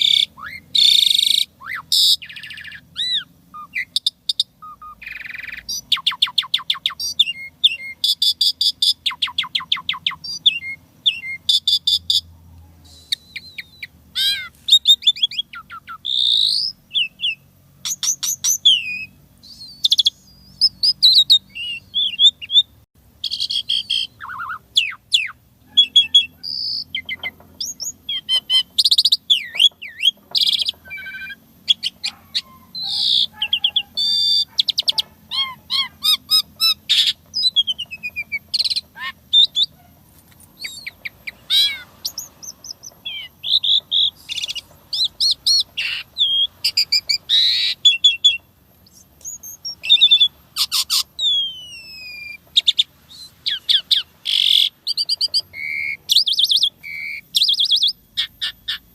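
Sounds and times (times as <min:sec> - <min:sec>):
starling singing varied song: 0:00.0 - 0:58.9.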